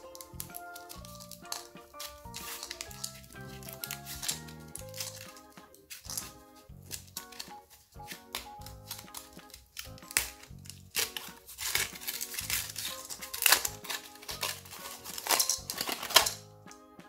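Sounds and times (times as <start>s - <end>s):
wrapper crinkling and tearing: 0.0s - 16.5s
background music: 0.0s - 17.0s.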